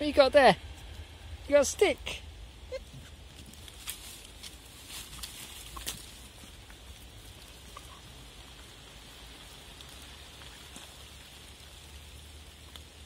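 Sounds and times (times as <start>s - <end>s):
light rain pattering: 0.0s - 13.0s
low rumble: 0.0s - 13.0s.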